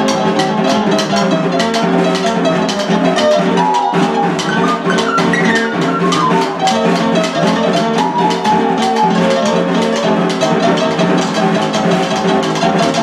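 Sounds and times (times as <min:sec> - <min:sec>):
electronic keyboard chords and melody: 0:00.0 - 0:13.0
snare drum roll: 0:00.8 - 0:13.0.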